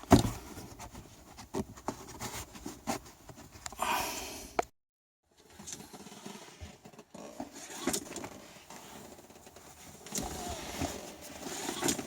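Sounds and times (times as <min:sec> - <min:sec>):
scraping and rustling upholstery: 0:00.1 - 0:03.7, 0:05.4 - 0:12.0.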